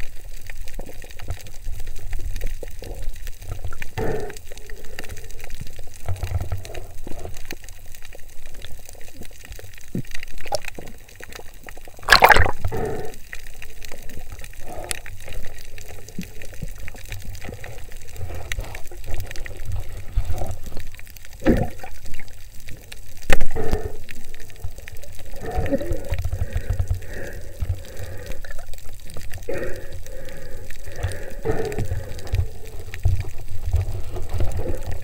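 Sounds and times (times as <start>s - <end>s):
underwater water rushing: 6.0s - 35.0s.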